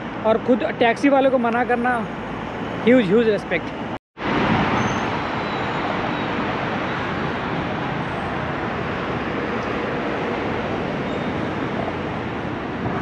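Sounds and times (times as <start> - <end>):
city road traffic roar: 0.0 - 13.0.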